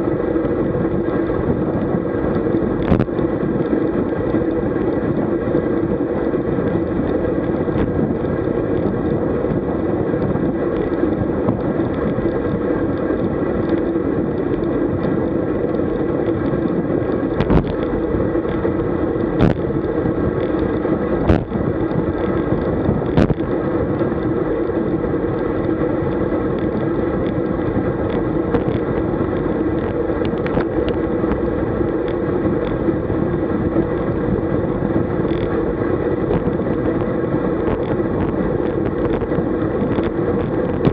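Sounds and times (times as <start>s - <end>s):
road and tyre noise: 0.0s - 40.9s
wind rush on microphone: 0.0s - 40.9s.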